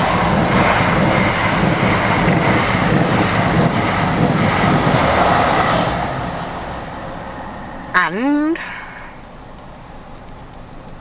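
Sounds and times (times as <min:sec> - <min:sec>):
train passing rumble: 0:00.0 - 0:11.0.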